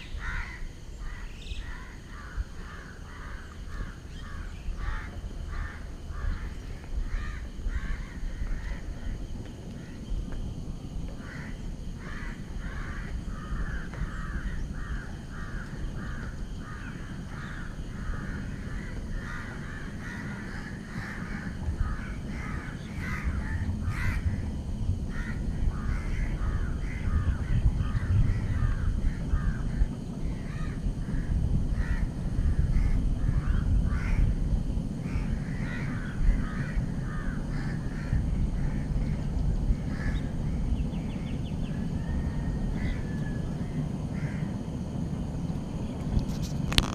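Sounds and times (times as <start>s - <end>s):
low rumble: 0.0s - 46.9s
crows cawing: 0.1s - 9.2s, 11.2s - 24.5s, 25.1s - 32.1s, 32.7s - 34.3s, 35.0s - 39.3s, 39.9s - 40.6s, 42.0s - 44.6s.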